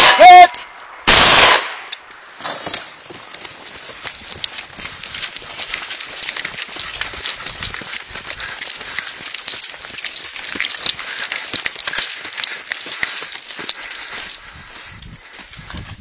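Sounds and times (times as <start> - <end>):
footsteps crunching on gravel: 2.2 - 16.0.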